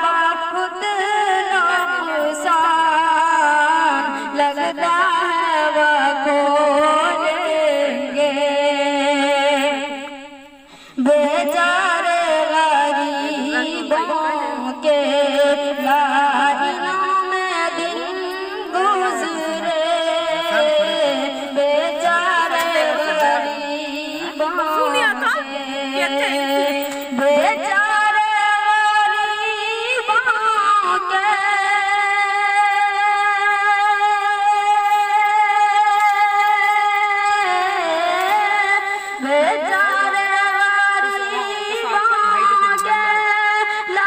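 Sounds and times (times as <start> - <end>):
boy singing into karaoke microphone: 0.0 - 44.0.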